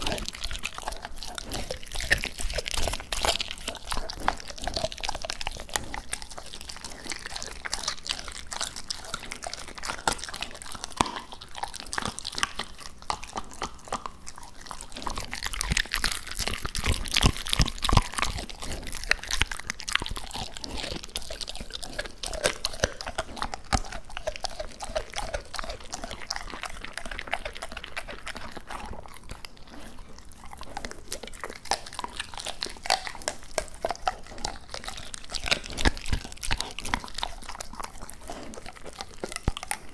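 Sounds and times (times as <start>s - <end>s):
dog chewing bones: 0.0s - 39.9s.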